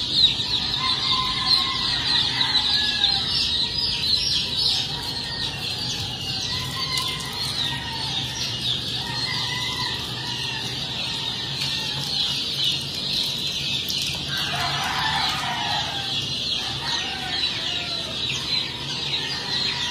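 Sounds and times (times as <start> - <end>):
chicks peeping: 0.0 - 19.9.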